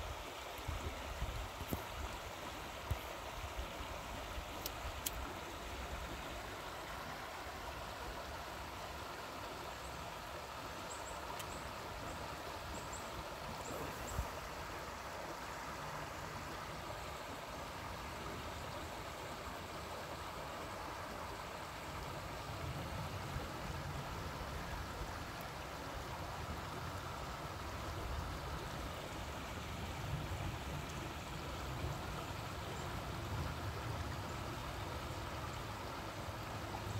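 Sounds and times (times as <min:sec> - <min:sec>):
creek flowing over rocks: 0:00.0 - 0:36.9.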